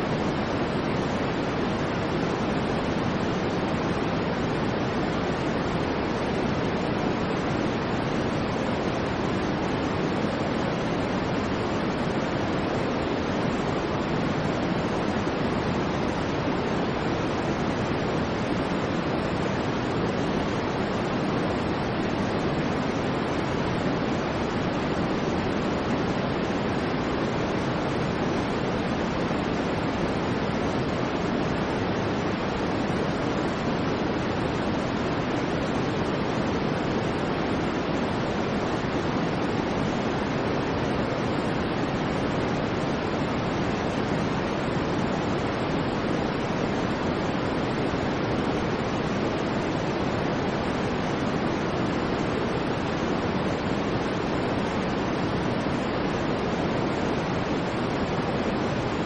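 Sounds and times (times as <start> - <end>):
steady white noise hiss: 0.0 - 59.0.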